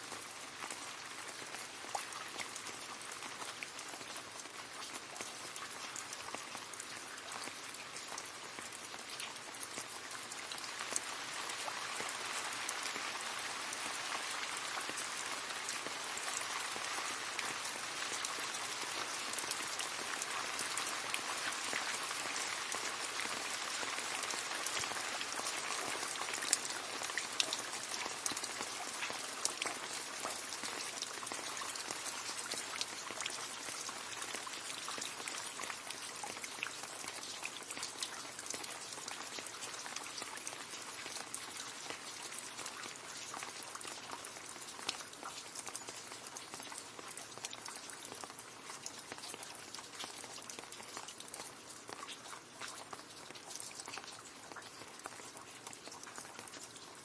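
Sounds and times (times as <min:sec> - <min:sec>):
rain splashing into puddle: 0:00.0 - 0:57.0.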